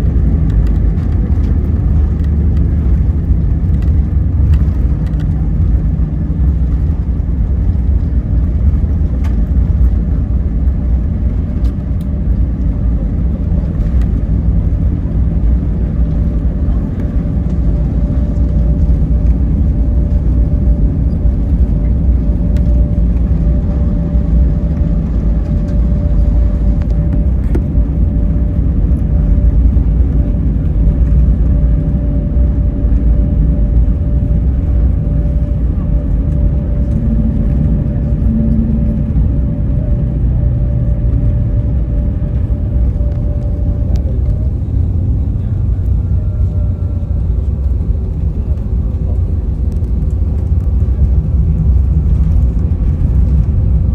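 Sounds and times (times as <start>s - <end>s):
airliner cabin rumble: 0.0s - 53.9s
thin steady whine: 4.5s - 53.9s.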